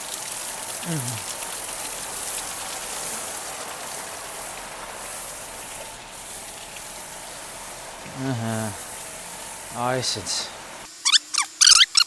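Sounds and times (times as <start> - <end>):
water spraying onto concrete floor: 0.0 - 11.1.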